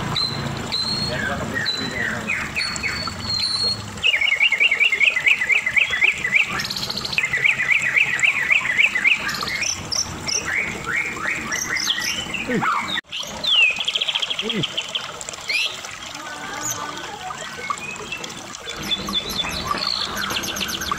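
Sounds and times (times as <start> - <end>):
bird singing: 0.0 - 15.8, 16.6 - 20.9.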